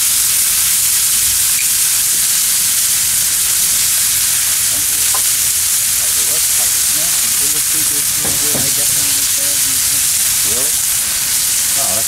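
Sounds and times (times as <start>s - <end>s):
steaks sizzling on grill: 0.0s - 12.0s.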